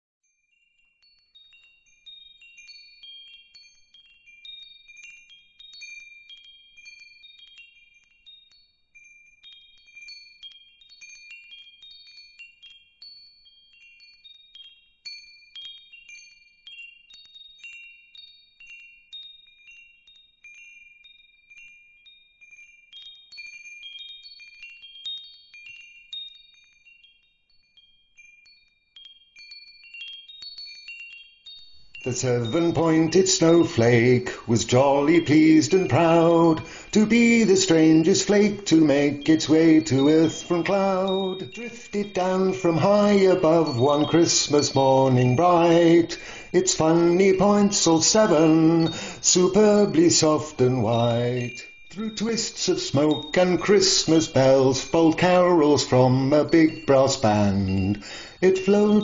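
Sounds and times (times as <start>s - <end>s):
wind chimes tinkling: 0.2s - 59.0s.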